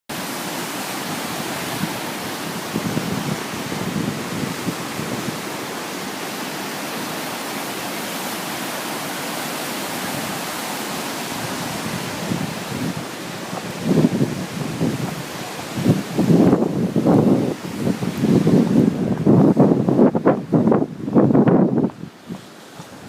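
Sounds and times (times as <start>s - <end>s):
rushing floodwater: 0.1s - 23.0s
wind buffeting microphone: 0.6s - 8.7s, 9.8s - 23.0s.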